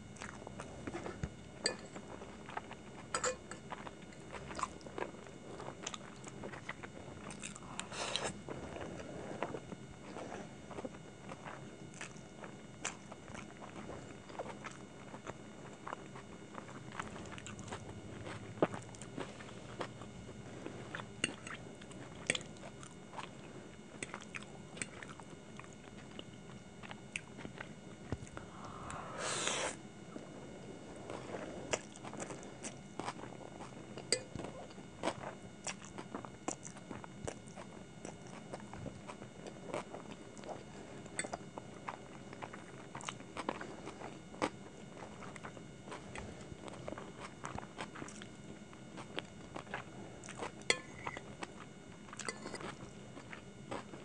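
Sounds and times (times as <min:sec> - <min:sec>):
chewing and mouth sounds: 0:00.1 - 0:29.0, 0:31.1 - 0:54.0.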